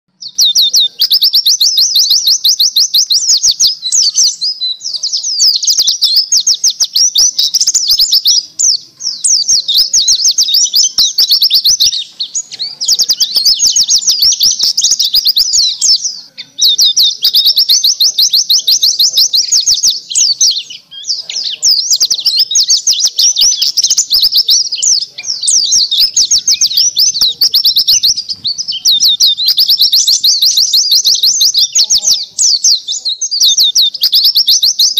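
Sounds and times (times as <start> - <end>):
bird twittering song: 0.1 - 34.9.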